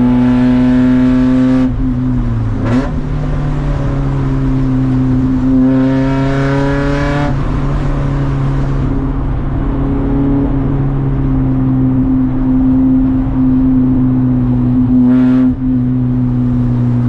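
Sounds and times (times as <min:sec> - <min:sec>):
race car engine droning: 0:00.0 - 0:17.0.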